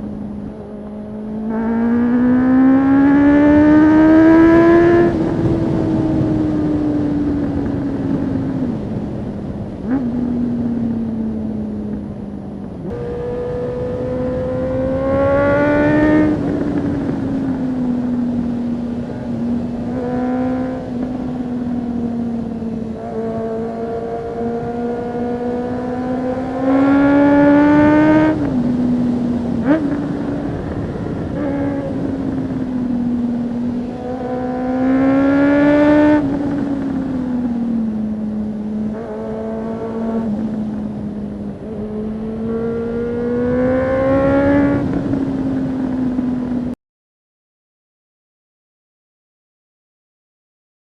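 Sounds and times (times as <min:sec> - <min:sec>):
motorcycle engine revving: 0:00.0 - 0:46.8.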